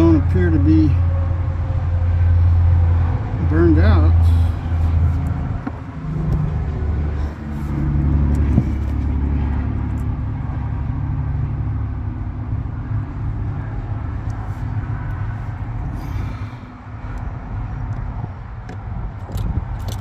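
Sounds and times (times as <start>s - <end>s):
diesel engine idling: 0.0s - 19.6s.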